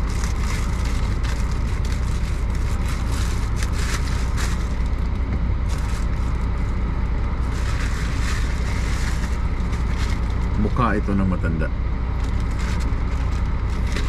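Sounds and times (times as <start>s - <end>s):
parcel crinkling and scraping: 0.0s - 10.8s, 12.1s - 14.0s
truck idling: 0.0s - 14.0s.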